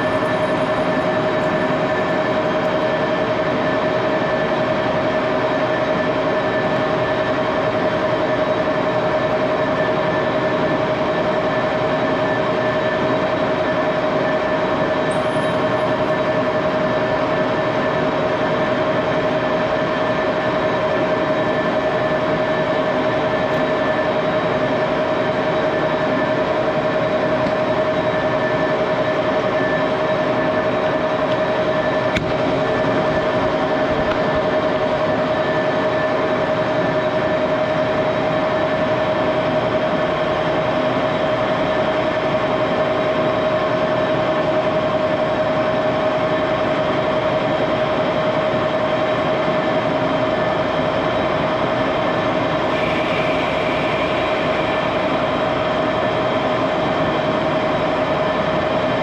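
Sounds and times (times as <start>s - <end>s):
lathe running with high whine: 0.0s - 59.0s.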